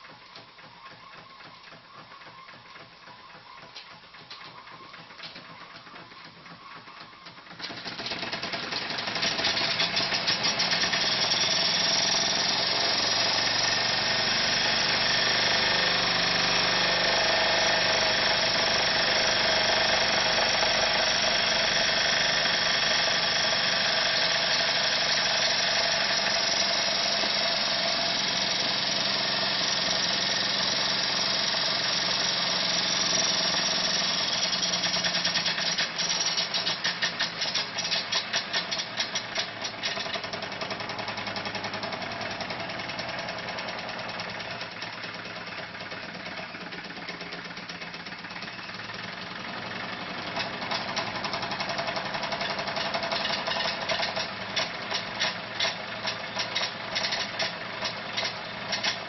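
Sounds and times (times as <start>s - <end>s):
toy steam engine chuffing: 0.0s - 59.0s.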